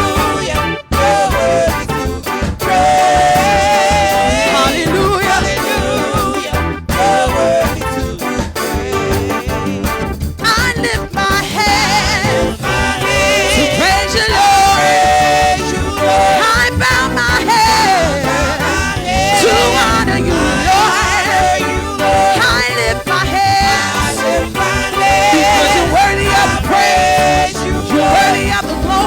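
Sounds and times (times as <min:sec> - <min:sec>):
band with keyboard and drums: 0:00.0 - 0:29.0
singers with strong vibrato: 0:00.0 - 0:29.0.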